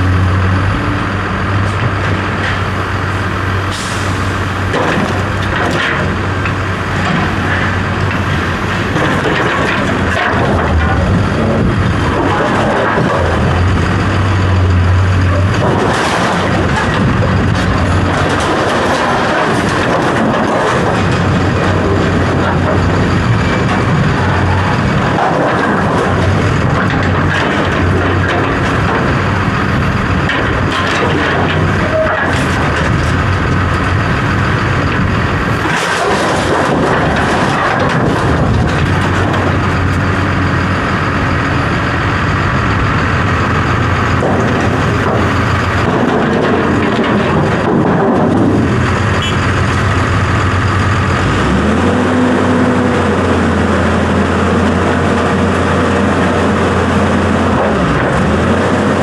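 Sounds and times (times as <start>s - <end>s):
heavy vehicle engine humming: 0.0s - 59.0s
clatter: 4.7s - 59.0s.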